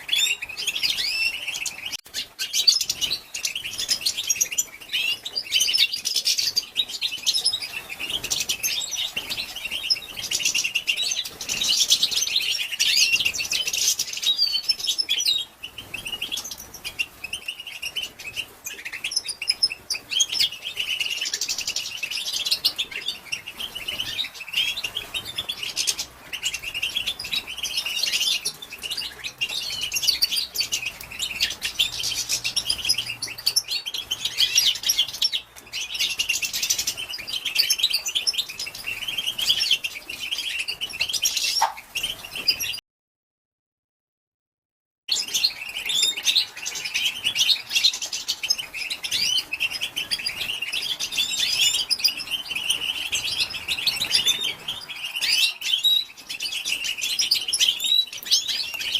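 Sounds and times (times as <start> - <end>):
goldfinch twittering: 0.0 - 42.8, 45.1 - 58.9.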